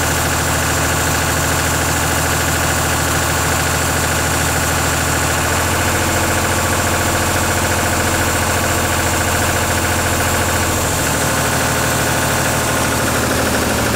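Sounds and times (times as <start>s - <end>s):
tractor diesel engine idling: 0.0s - 13.9s.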